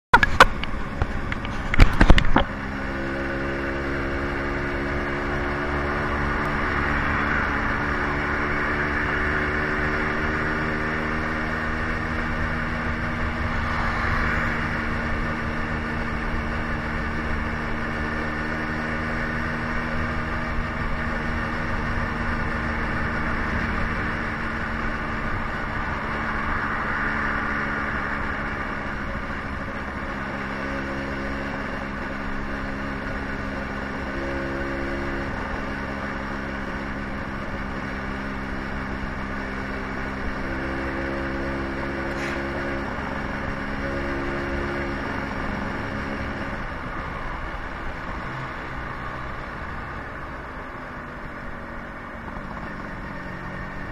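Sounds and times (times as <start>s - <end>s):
road noise: 0.0s - 53.9s
motorbike engine running: 0.1s - 53.9s.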